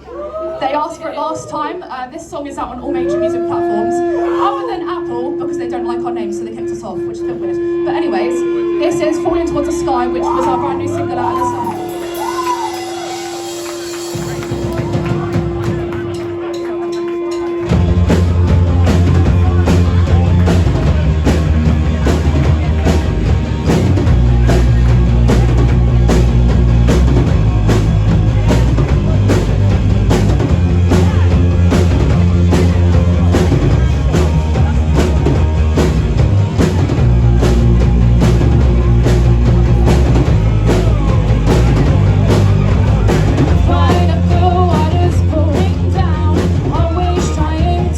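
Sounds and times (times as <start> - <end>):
live rock band playing: 3.0 - 47.9.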